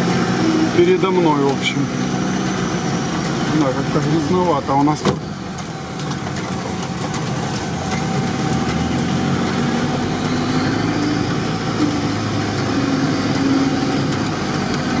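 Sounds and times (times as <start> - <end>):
road and body noise: 0.0 - 15.0
vehicle engine running: 0.0 - 15.0.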